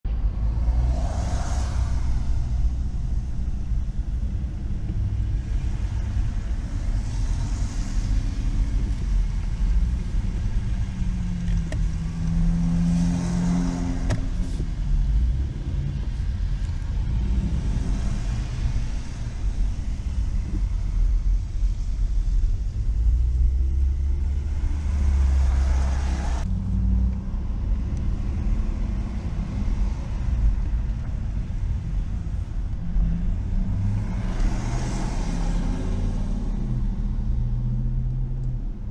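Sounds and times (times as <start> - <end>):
low vehicle rumble: 0.0 - 38.9.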